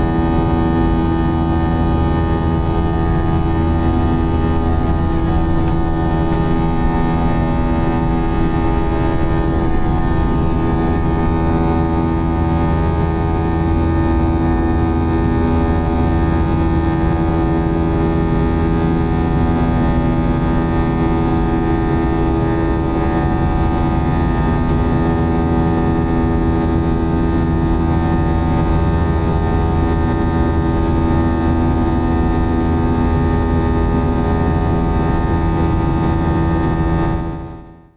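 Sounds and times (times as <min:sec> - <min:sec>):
jet engines droning in cabin: 0:00.0 - 0:37.9.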